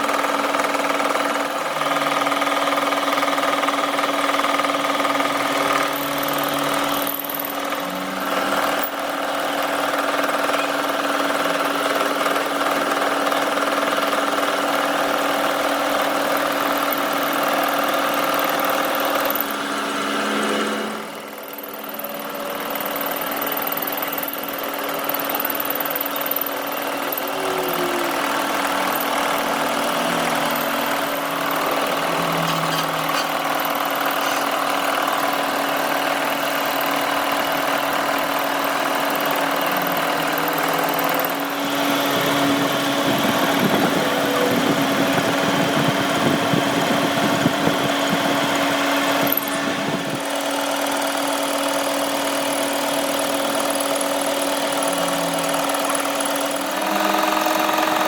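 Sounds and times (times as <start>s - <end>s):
workshop machine motor humming: 0.0s - 58.0s.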